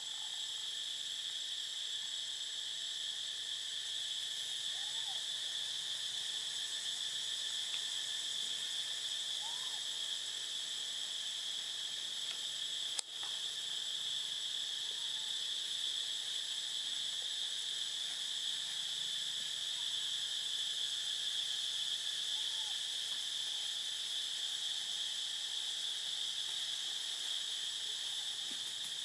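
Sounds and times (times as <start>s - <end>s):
insect chorus drone: 0.0s - 29.0s.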